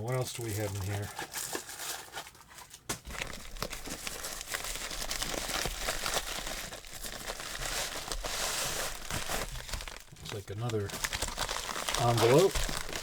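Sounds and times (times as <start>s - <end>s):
packaging crinkling and rustling: 0.1s - 13.0s.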